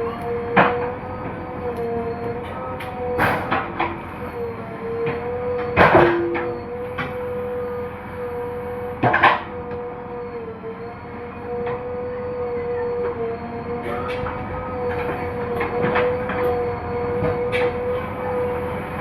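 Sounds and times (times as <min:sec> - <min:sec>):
diesel engine and hydraulic whine: 0:00.0 - 0:19.0.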